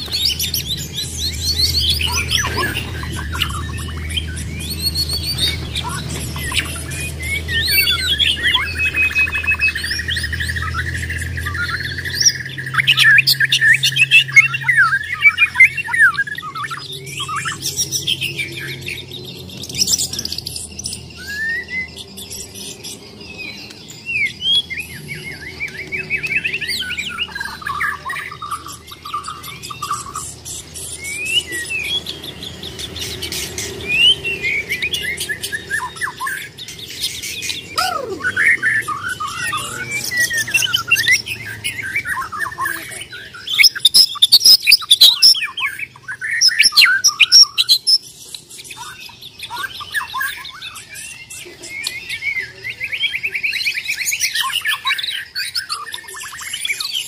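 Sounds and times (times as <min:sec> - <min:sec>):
bird singing whistles and trills: 0:00.0 - 0:57.0.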